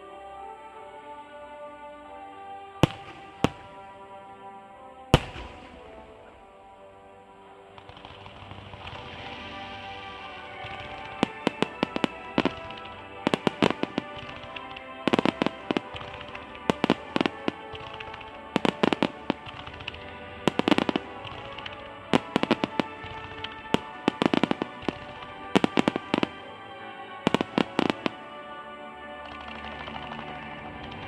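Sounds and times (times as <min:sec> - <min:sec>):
music playing: 0:00.0 - 0:31.0
fireworks bangs and crackles: 0:02.8 - 0:03.9, 0:05.1 - 0:06.5, 0:07.7 - 0:28.5, 0:29.2 - 0:31.0.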